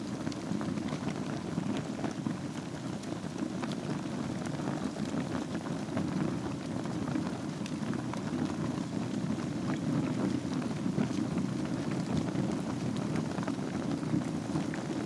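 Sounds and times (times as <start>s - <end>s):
logs crackling and popping: 0.0s - 15.0s
low rush of flames: 0.0s - 15.0s.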